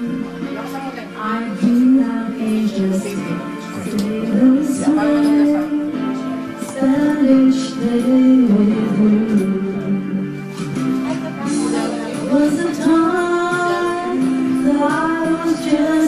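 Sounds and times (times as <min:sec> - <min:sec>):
woman singing into microphone: 0:00.0 - 0:10.4, 0:11.2 - 0:16.0
recorded backing music: 0:00.0 - 0:16.0.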